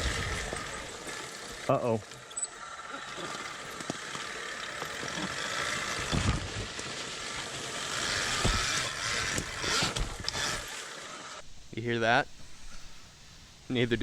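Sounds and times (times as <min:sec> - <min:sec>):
wind and tyres on dirt: 0:00.0 - 0:11.7.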